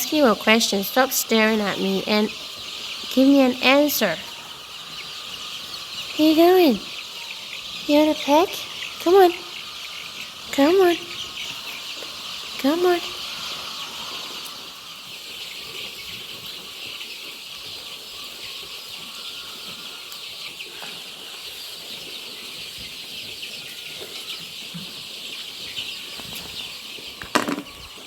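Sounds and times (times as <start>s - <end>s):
chicks cheeping: 0.0s - 28.0s.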